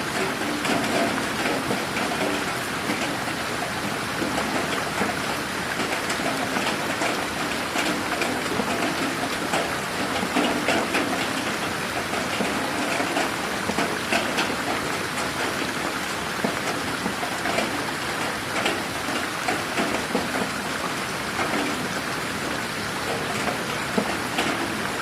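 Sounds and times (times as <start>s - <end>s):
rain hissing: 0.0s - 25.0s
raindrops ticking on surfaces: 0.0s - 25.0s.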